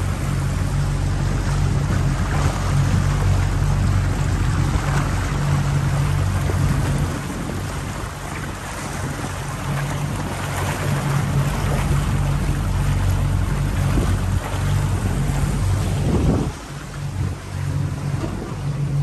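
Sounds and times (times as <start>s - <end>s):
boat wake wash: 0.0s - 19.0s
outboard motor running: 0.0s - 19.0s
wind on microphone: 0.0s - 19.0s.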